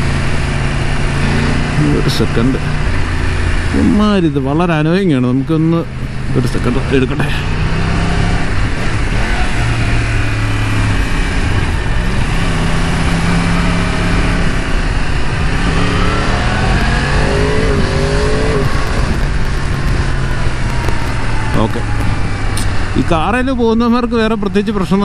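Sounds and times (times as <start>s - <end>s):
motorcycle engine revving: 0.0s - 25.0s
wind and road rush: 0.0s - 25.0s.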